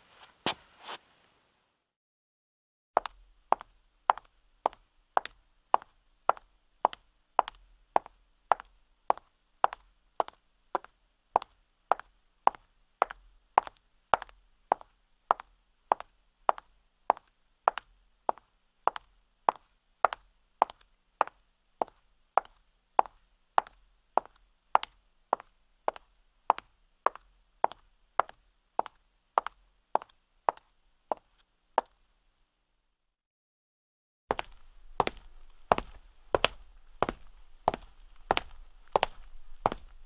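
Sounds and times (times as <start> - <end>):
footsteps on concrete: 0.1 - 1.0, 3.0 - 20.8, 21.8 - 32.0, 34.3 - 40.0.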